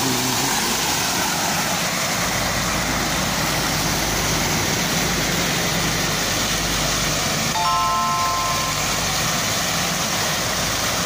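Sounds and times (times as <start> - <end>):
low hum of road traffic: 0.0 - 11.0
water splashing in a fountain: 0.0 - 11.0.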